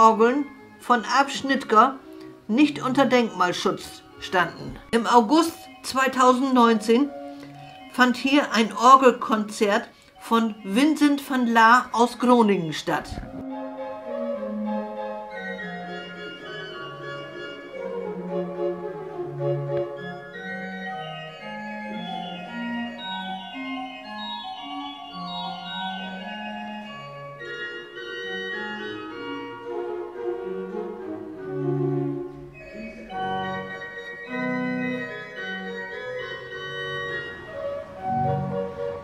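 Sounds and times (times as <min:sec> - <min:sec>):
pipe organ playing: 0:00.0 - 0:39.0.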